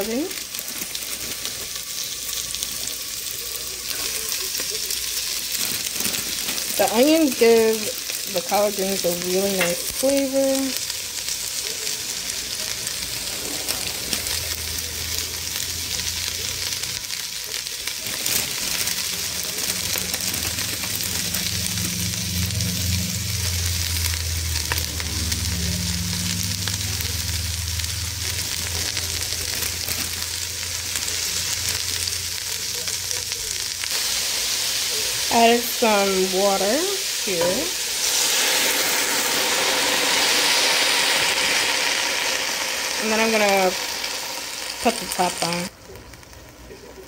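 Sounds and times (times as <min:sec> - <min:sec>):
greens sizzling in a pot: 0:00.0 - 0:47.0.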